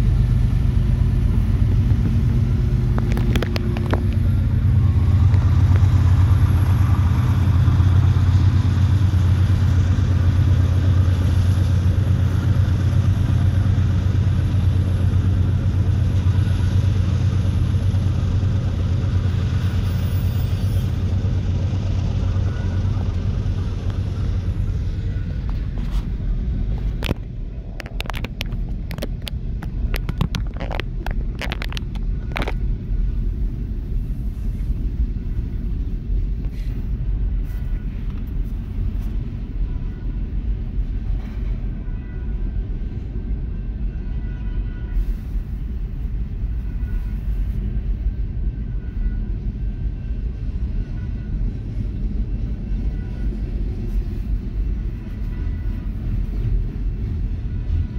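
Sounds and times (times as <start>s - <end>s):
diesel locomotive engine drone: 0.0s - 57.9s
train cars rumbling: 0.0s - 57.9s.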